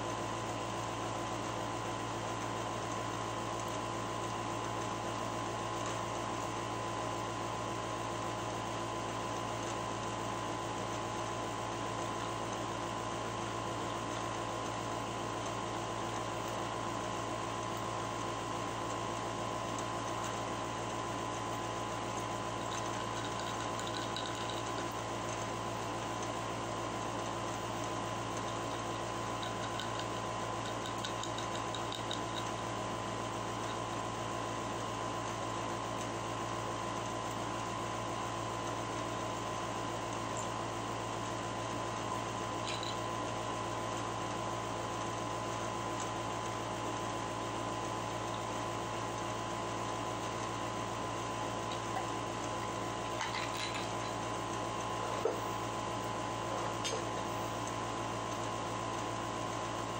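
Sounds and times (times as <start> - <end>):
machine hum and hiss: 0.0 - 59.9.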